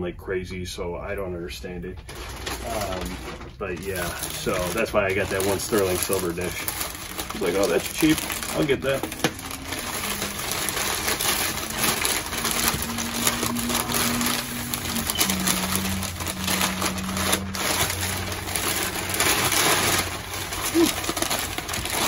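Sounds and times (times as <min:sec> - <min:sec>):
tissue paper crinkling: 0:02.0 - 0:22.0.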